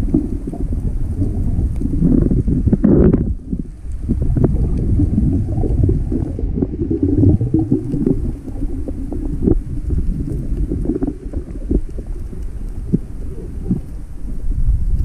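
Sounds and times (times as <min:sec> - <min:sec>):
small underwater crackles and knocks: 0:00.0 - 0:15.0
underwater churning rumble: 0:00.0 - 0:15.0.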